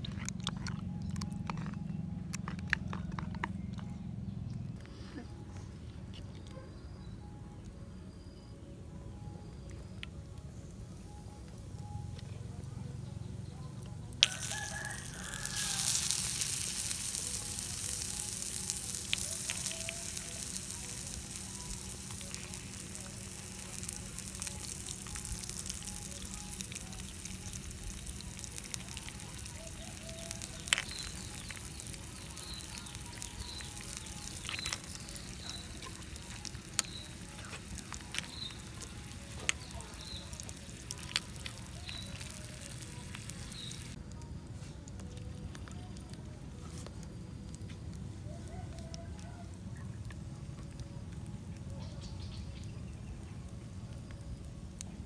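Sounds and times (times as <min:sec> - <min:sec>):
food sizzling on hot rock: 0:09.4 - 0:55.0
wood fire popping: 0:09.5 - 0:55.0.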